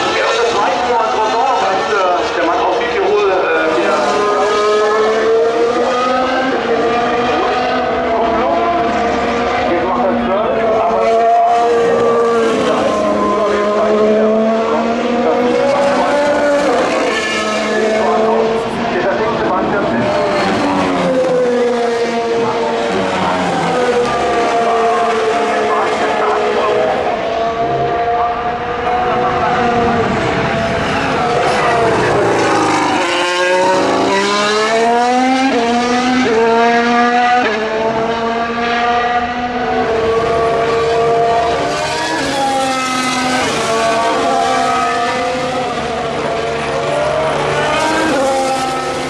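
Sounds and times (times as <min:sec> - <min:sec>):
racing car engines at full throttle: 0:00.0 - 0:49.0.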